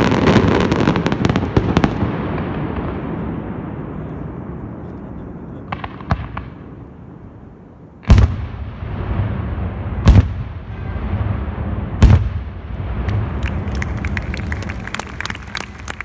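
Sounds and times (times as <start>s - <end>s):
firework booms: 0.0s - 15.6s.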